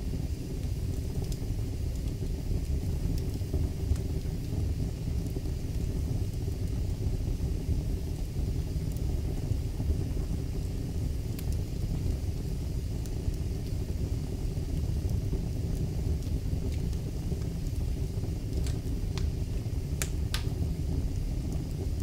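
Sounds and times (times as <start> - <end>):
faint fire crackles: 0.0 - 22.0
fire rumbling: 0.0 - 22.0.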